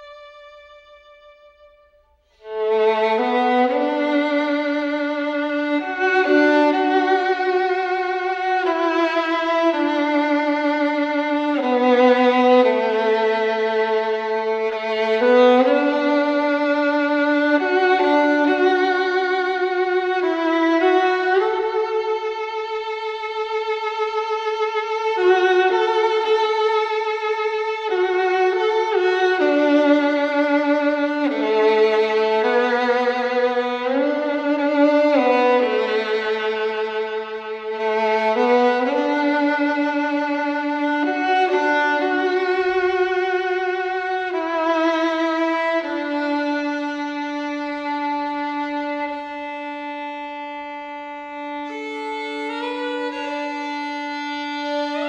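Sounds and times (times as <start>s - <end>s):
slow violin music: 0.0s - 55.0s.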